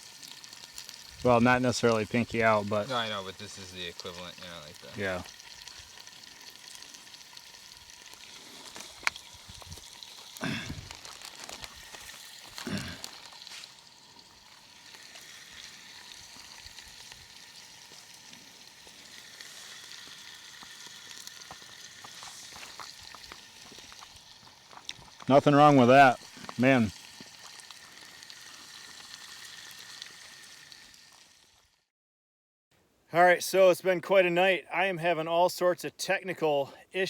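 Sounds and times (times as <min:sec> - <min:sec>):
campfire crackling and sizzling: 0:00.0 - 0:31.9.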